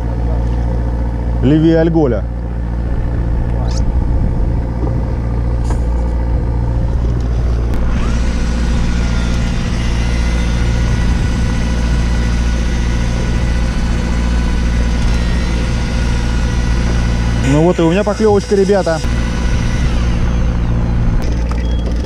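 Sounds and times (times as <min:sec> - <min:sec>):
boat engine idling: 0:00.0 - 0:22.0
thin steady whine: 0:00.0 - 0:22.0.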